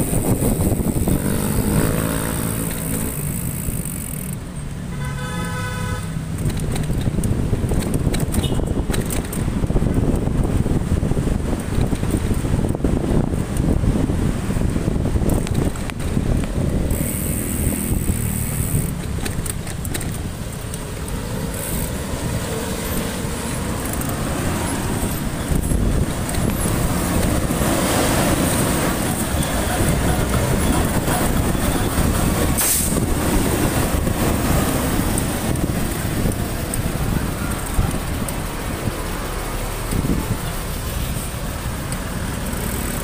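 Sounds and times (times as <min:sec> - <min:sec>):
wind rumble on microphone: 0:00.0 - 0:04.1, 0:06.3 - 0:43.0
motorcycle engine: 0:00.0 - 0:09.4, 0:14.7 - 0:43.0
road noise: 0:00.0 - 0:43.0.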